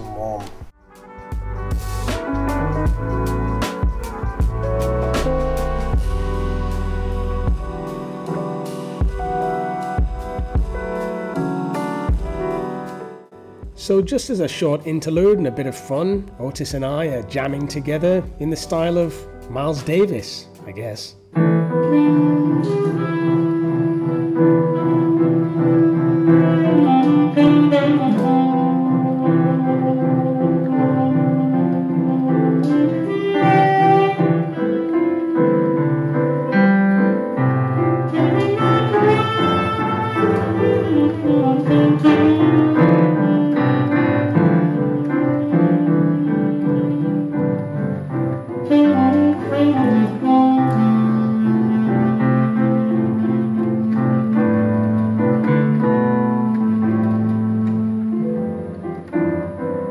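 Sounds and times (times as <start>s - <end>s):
digital piano jamming: 0.0s - 59.9s
saxophone playing long notes: 0.9s - 13.1s, 21.6s - 36.6s, 37.4s - 59.2s.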